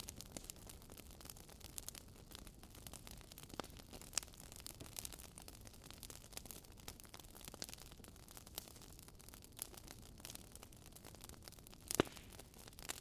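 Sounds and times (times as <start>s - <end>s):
logs crackling and popping: 0.0s - 13.0s.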